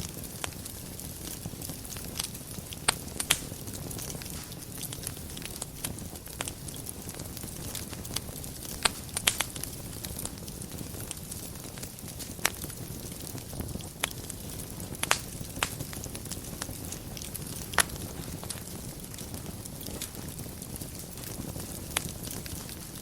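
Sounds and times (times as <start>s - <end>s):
fire crackling and popping: 0.0s - 23.0s
rumble of flames: 0.0s - 23.0s.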